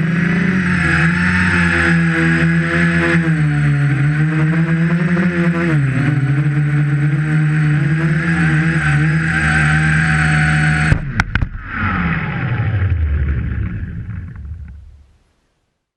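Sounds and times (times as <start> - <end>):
drone motors buzzing: 0.0 - 15.1
motors whining down: 0.0 - 15.1.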